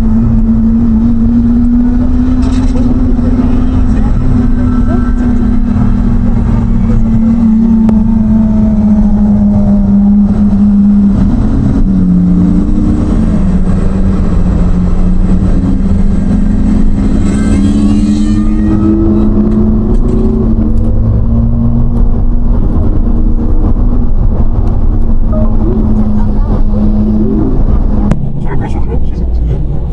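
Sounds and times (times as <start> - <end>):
sports car engine accelerating: 0.0 - 29.9.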